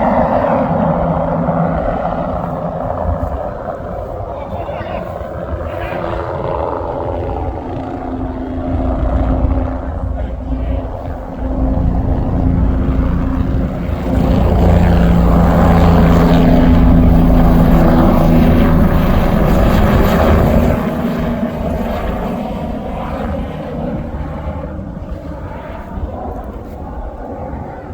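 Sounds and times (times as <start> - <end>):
helicopter rotor and engine: 0.0 - 27.9.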